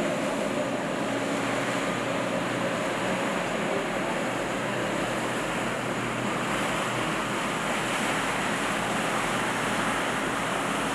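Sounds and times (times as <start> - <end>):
rushing water: 0.0 - 10.9.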